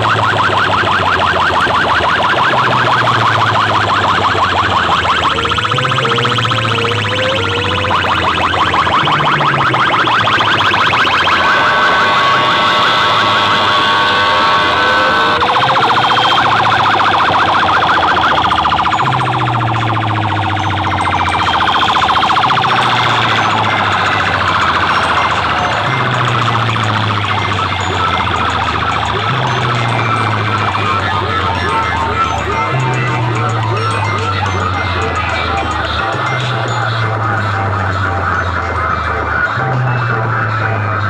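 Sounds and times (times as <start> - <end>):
bass line: 0.0 - 41.0
siren-like electronic effect: 0.0 - 41.0.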